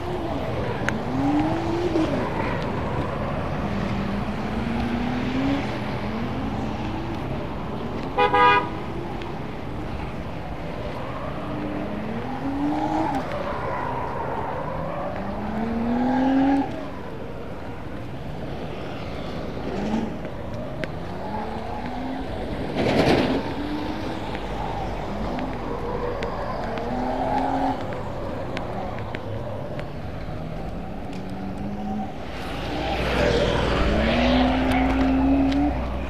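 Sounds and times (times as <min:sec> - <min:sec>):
steady traffic noise: 0:00.0 - 0:36.0
vehicle engines accelerating: 0:00.0 - 0:36.0.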